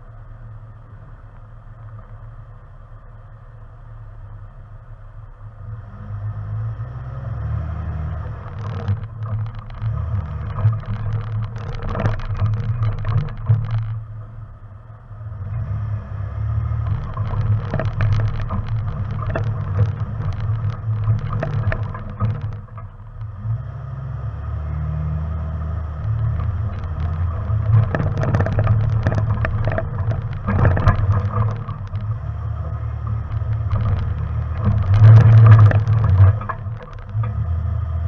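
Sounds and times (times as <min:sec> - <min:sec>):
off-road vehicle engine running: 0:00.0 - 0:38.0
rocks and gravel under tyres: 0:00.0 - 0:38.0.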